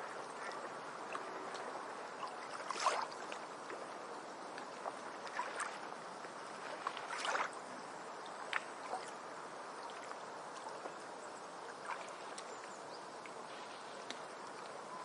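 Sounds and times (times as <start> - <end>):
water lapping and trickling: 0.0 - 15.0
water splashes: 0.0 - 15.0.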